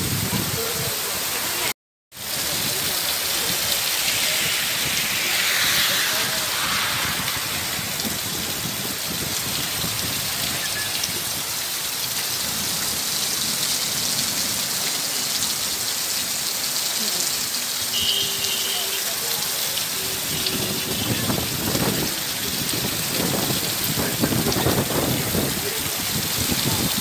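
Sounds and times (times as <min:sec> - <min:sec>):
heavy rain splashing on ground: 0:00.0 - 0:05.4, 0:06.1 - 0:27.0.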